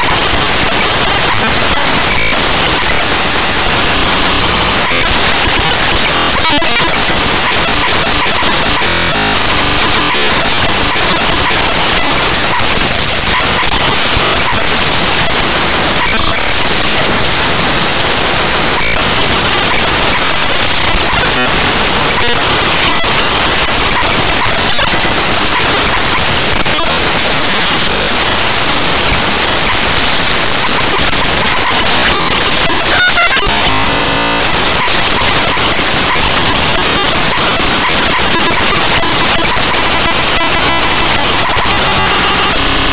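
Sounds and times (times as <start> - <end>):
harsh static hiss: 0.0 - 42.9.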